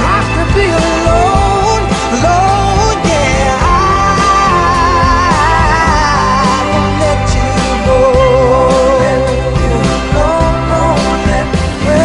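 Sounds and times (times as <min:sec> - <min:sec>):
person singing: 0:00.0 - 0:12.0
pop band accompaniment: 0:00.0 - 0:12.0.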